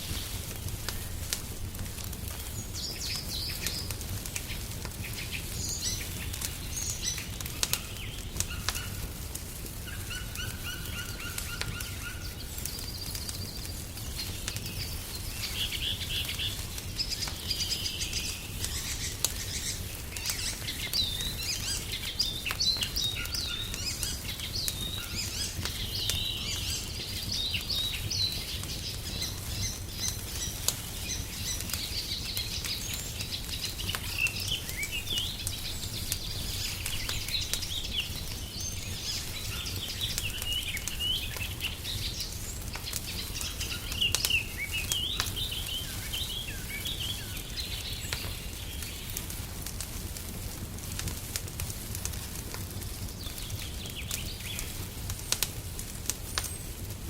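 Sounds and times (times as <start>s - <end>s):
wood fire crackling: 0.0s - 57.0s
songbirds chirping and singing: 2.3s - 49.2s.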